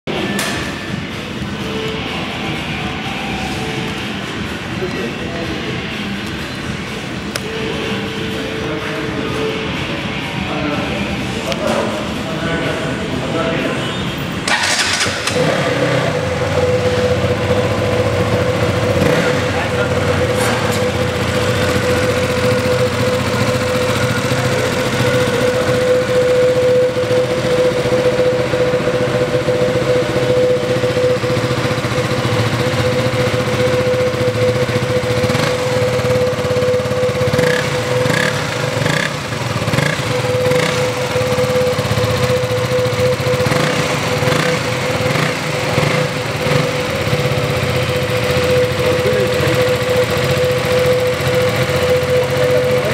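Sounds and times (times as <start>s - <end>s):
motorcycle engine idling: 0.1s - 52.9s.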